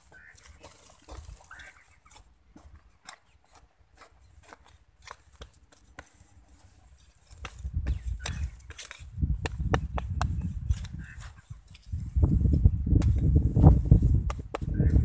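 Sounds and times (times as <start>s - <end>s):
hoe striking dry soil: 0.0s - 15.0s.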